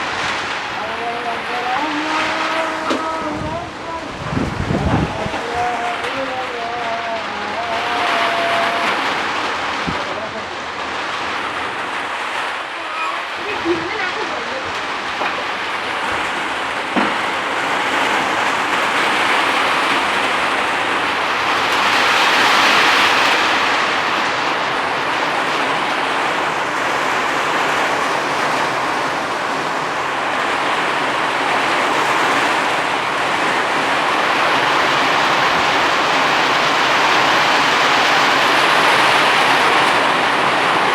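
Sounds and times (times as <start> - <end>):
strong storm wind: 0.0 - 40.9.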